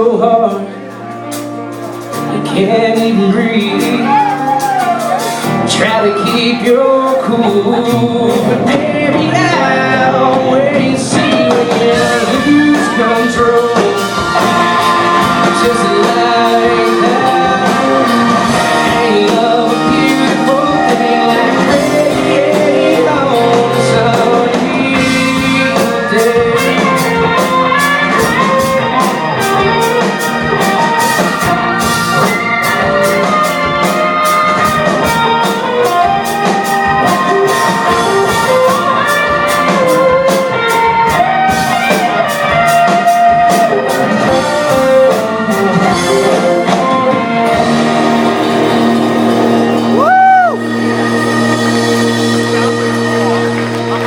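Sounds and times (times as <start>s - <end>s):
country song with singing: 0.0s - 1.1s, 1.9s - 54.0s
steady drum beat: 0.5s - 54.0s.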